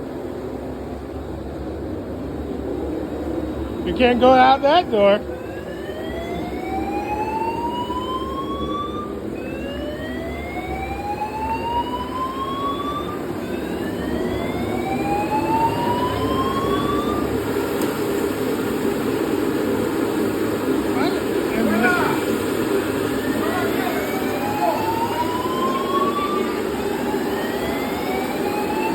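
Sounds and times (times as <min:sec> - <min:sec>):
fire alarm whoop tone: 0:03.6 - 0:17.5, 0:19.1 - 0:28.9.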